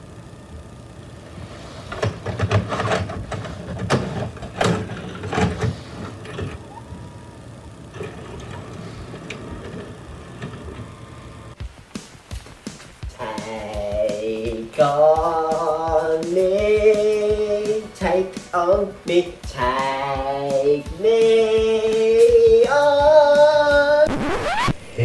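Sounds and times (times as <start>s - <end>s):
tape deck mechanism humming: 0.0s - 24.8s.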